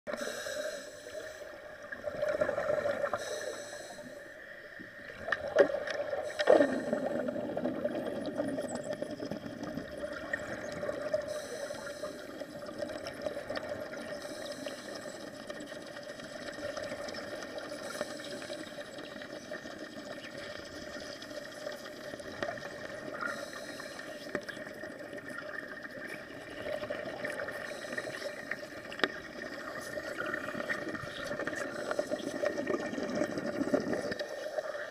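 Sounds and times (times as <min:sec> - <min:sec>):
bubbling water: 0:01.5 - 0:03.7, 0:04.9 - 0:34.9.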